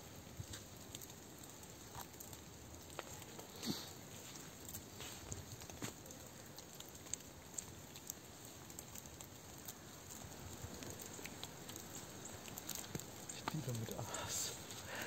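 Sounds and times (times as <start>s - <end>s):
faint steady hiss: 0.0s - 15.0s
small clicks and crackles: 0.0s - 15.0s.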